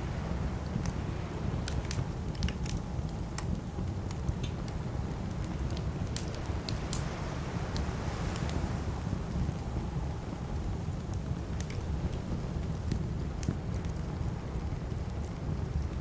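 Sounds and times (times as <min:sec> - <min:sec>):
campfire wood crackling: 0:00.0 - 0:16.0
low fire rumble: 0:00.0 - 0:16.0
fire popping: 0:00.1 - 0:16.0.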